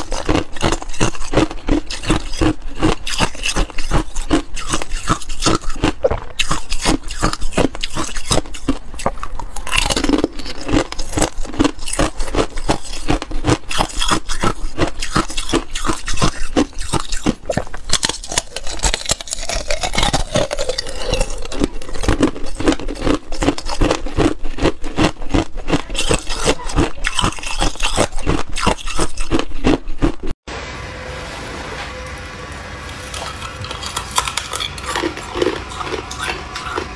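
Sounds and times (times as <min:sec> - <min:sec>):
thin ice crackling and crunching: 0:00.0 - 0:30.2.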